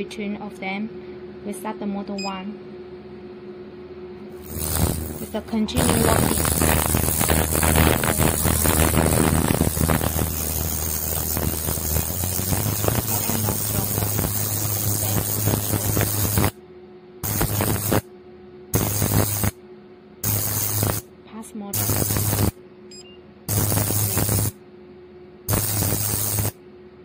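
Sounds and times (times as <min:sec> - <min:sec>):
steady hiss over low hum: 0:02.5 - 0:27.0.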